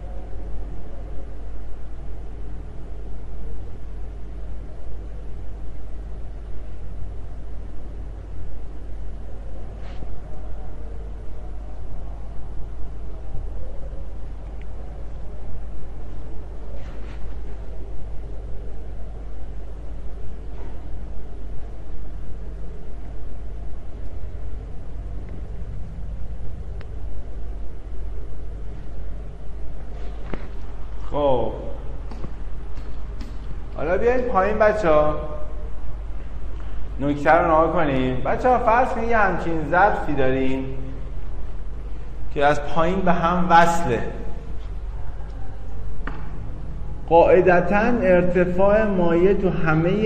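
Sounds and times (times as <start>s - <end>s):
steady low rumble: 0.0s - 50.0s.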